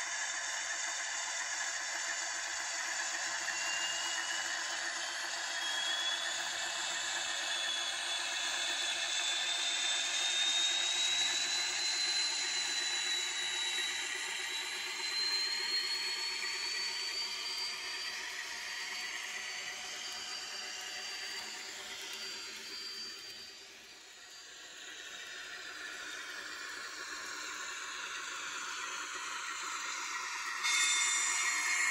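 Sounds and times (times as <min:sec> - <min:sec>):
model train running on track: 0:00.0 - 0:31.9
thin rising whine: 0:00.0 - 0:31.9.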